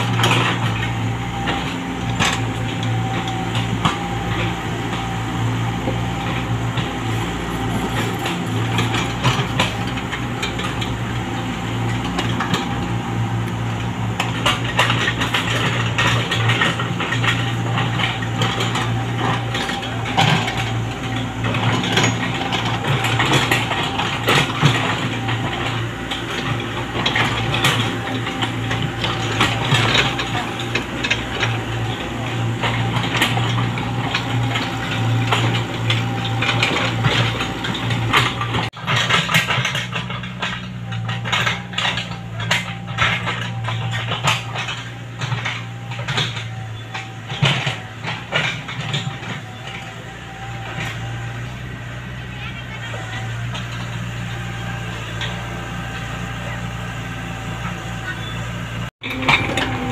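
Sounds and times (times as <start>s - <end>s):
bucket clanks and knocks: 0.0s - 51.4s
excavator diesel engine running: 0.0s - 59.9s.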